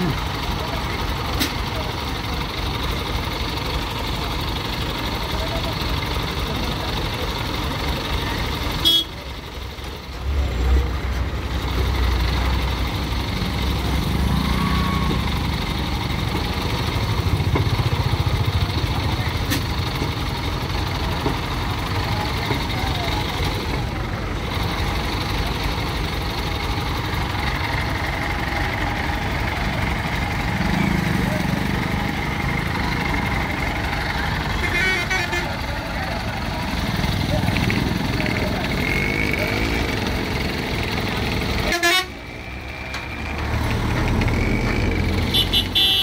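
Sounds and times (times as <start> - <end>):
crane diesel engine running: 0.0 - 46.0
deep engine rumble: 0.0 - 46.0.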